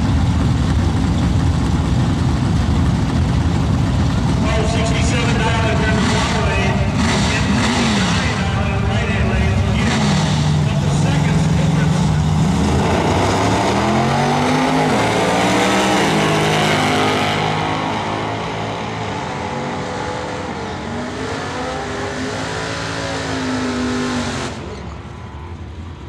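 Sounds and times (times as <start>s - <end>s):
racing cars accelerating: 4.1s - 26.0s.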